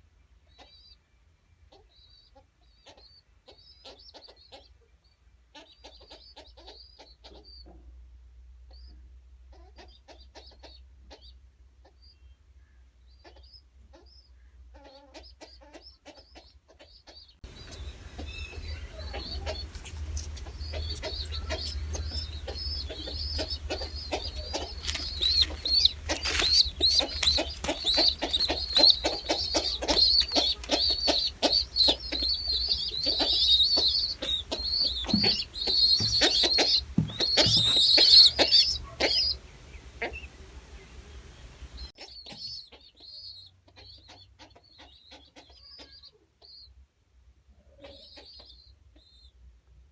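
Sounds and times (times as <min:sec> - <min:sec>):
birds chirping: 0:00.0 - 0:08.0, 0:08.6 - 0:46.8, 0:47.6 - 0:49.5.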